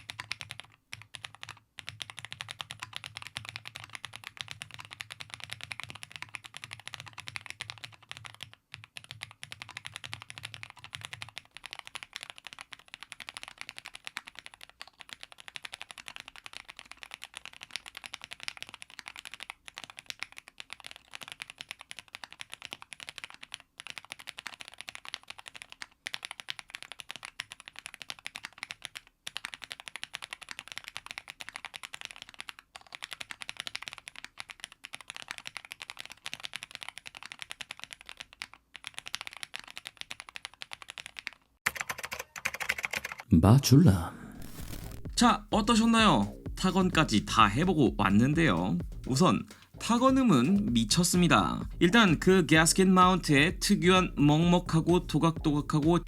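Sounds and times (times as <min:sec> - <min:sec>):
mechanical keyboard typing: 0:00.0 - 0:43.3, 0:45.3 - 0:56.0.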